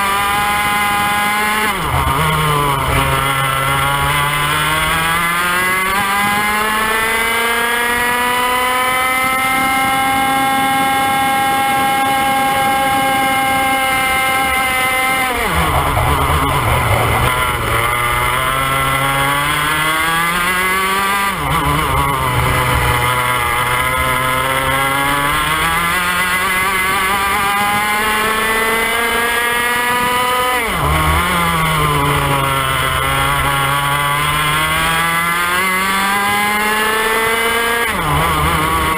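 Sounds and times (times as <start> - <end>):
kart engine at racing speed: 0.0 - 38.9.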